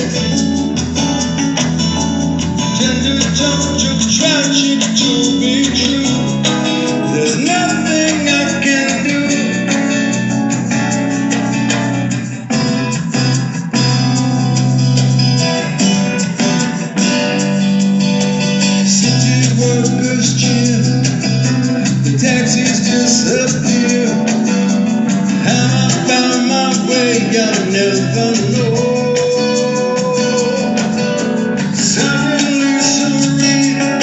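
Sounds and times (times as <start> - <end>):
acoustic guitar: 0.0 - 34.0
electric keyboard: 0.0 - 34.0.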